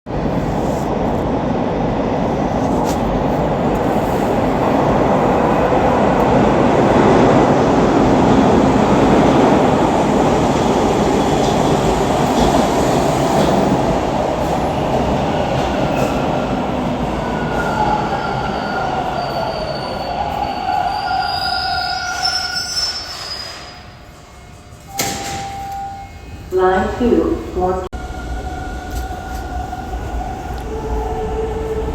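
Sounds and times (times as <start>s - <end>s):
subway train rumbling on rails: 0.1s - 31.9s.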